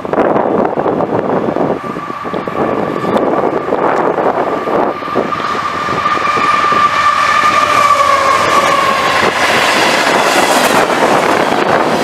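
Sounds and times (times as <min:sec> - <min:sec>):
locomotive horn: 0:01.6 - 0:12.0.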